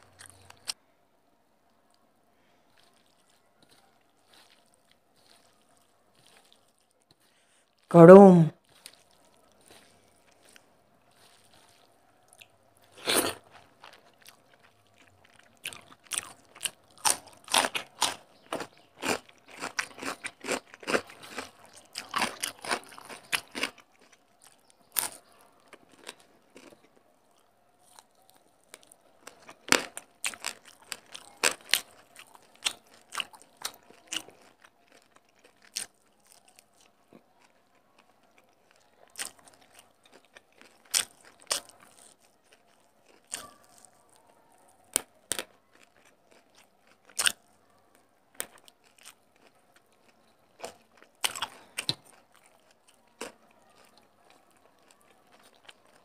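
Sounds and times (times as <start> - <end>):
crunching and chewing food: 0.0 - 0.8, 1.6 - 56.0.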